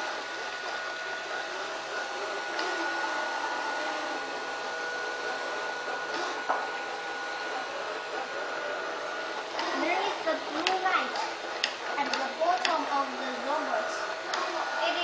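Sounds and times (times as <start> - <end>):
robot vacuum motor whine: 0.0 - 15.0.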